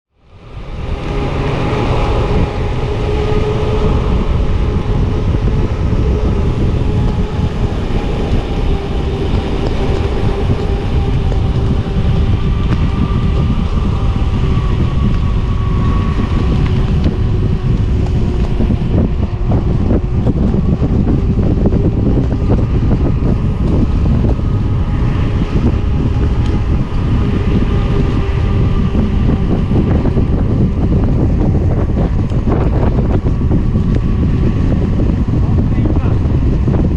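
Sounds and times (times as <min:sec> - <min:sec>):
wind buffeting microphone: 0:00.1 - 0:36.9.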